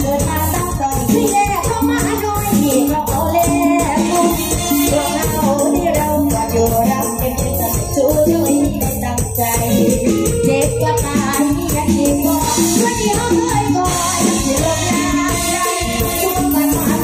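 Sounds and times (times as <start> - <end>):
band with percussive beat: 0.0 - 17.0
woman singing: 0.0 - 17.0.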